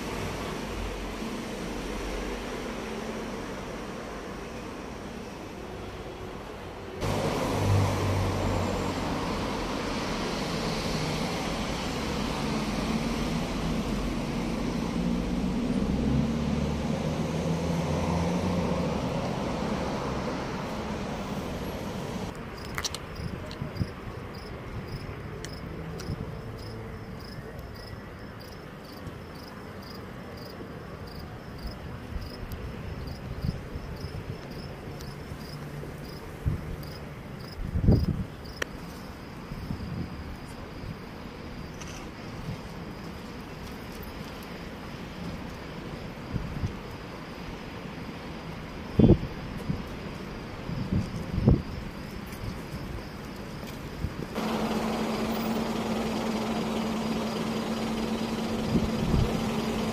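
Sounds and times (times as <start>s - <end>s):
road traffic passing: 0.0s - 59.9s
crickets chirping: 0.3s - 59.9s.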